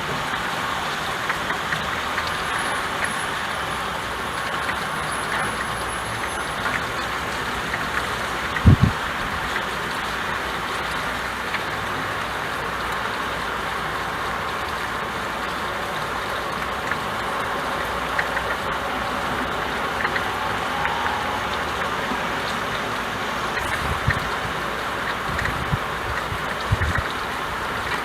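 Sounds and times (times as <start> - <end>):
rain on a window pane: 0.0 - 28.0.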